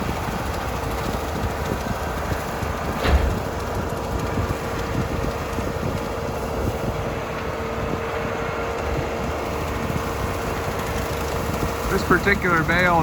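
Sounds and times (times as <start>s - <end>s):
tractor and bale processor drone: 0.0s - 13.0s.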